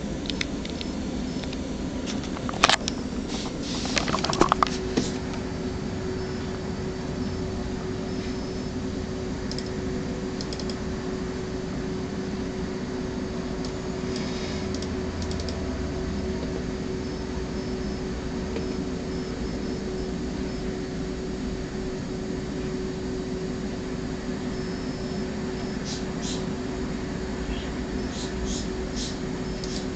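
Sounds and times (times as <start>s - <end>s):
mechanical hum and hiss: 0.0s - 29.9s.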